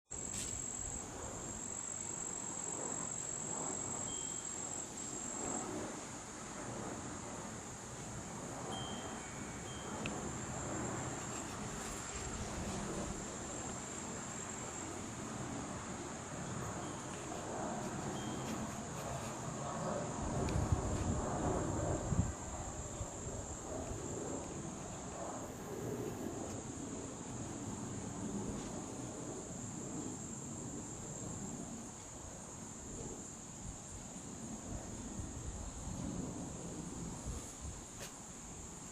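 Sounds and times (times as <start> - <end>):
insects droning: 0.1 - 38.9
low wind rumble: 0.1 - 38.9.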